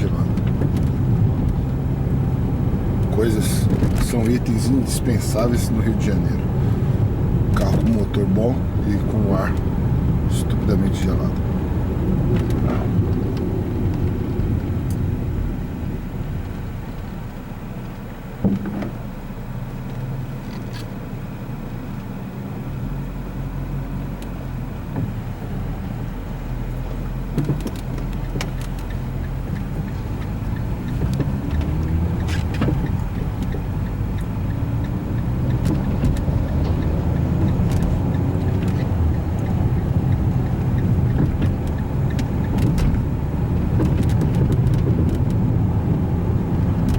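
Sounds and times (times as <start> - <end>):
car engine accelerating: 0.0 - 46.9
road noise inside car: 0.0 - 46.9.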